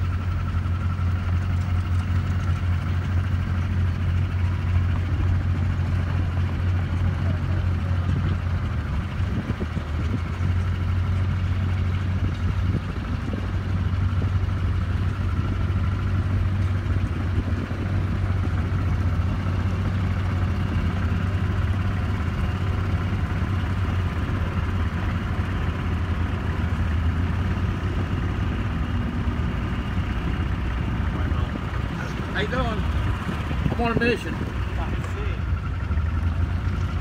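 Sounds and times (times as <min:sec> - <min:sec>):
large engine idling: 0:00.0 - 0:37.0.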